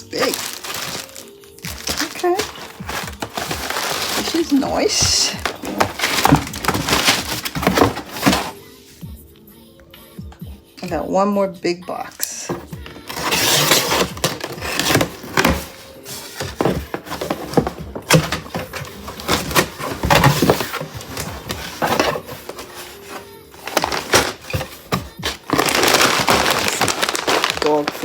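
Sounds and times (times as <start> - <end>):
cardboard tearing and rustling: 0.0 - 8.6, 12.5 - 28.0.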